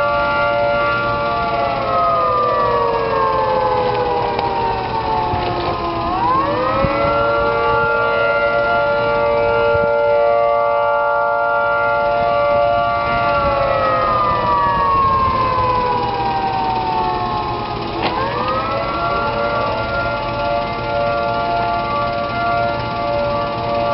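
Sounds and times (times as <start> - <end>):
warning siren wailing: 0.0 - 23.9.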